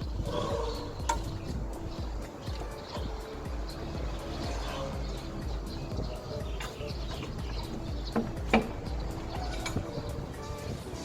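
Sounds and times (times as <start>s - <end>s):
background music with held tones: 0.0s - 11.0s
low regular beat: 0.0s - 11.0s.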